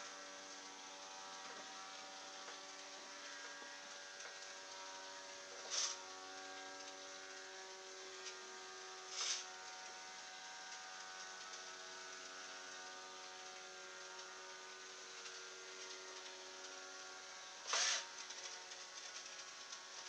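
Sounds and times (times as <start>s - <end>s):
small electric motor whine: 0.0s - 20.0s.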